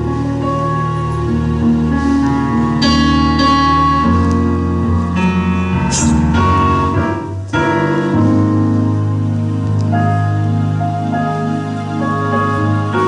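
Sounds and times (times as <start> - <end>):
keyboard chords: 0.0 - 13.0.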